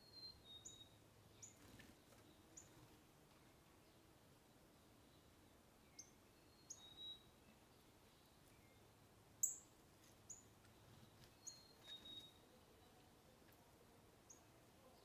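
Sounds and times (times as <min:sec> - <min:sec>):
songbird chirps: 0:00.0 - 0:15.0.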